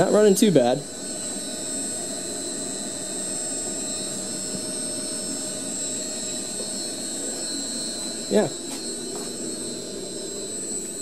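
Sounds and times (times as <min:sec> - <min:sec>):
drill press motor humming: 0:00.0 - 0:11.0
high-pitched motor whine: 0:00.0 - 0:11.0.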